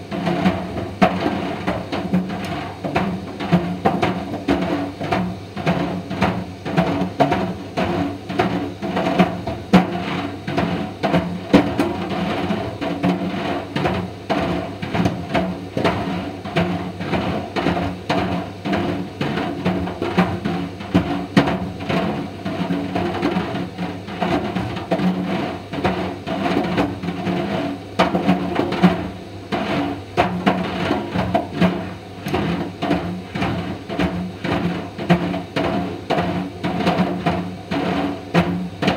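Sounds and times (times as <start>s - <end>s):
dryer balls clattering in drum: 0.0s - 38.9s.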